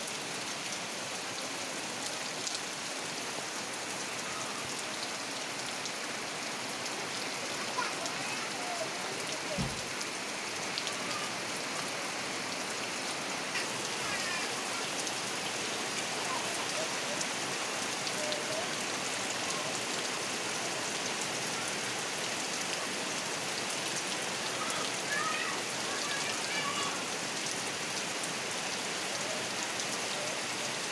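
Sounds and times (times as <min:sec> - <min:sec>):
steady rain: 0:00.0 - 0:30.9.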